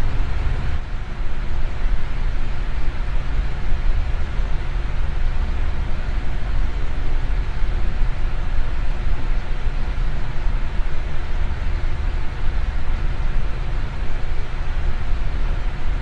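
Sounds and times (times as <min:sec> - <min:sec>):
electric fan running: 0:00.0 - 0:16.0
faint hum: 0:00.0 - 0:16.0.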